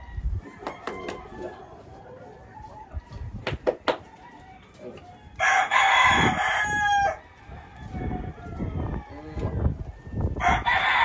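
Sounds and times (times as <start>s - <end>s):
rooster crowing: 0.0s - 3.2s, 3.9s - 11.0s.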